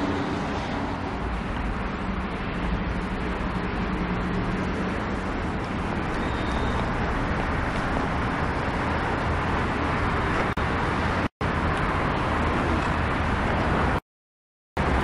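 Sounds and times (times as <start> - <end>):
outdoor rumble and hiss: 0.0 - 14.0.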